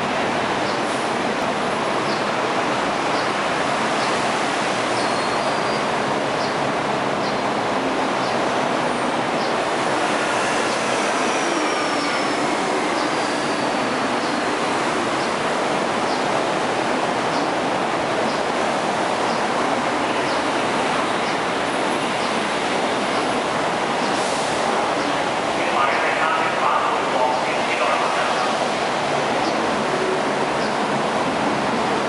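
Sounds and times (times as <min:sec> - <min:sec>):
train railway noise: 0:00.0 - 0:32.0.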